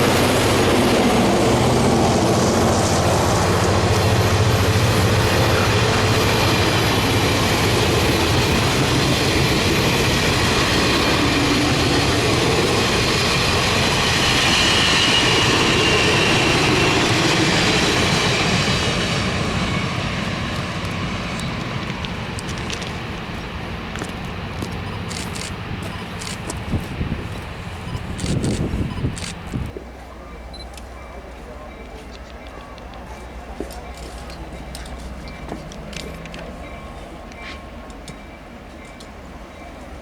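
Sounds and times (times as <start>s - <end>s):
train wheels rolling on rails: 0.0s - 29.9s, 30.7s - 40.0s
locomotive engine hum: 0.0s - 40.0s.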